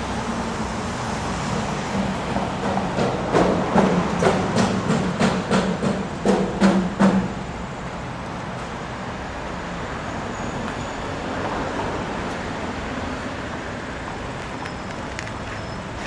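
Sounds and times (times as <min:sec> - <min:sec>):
steady traffic noise: 0:00.0 - 0:16.0.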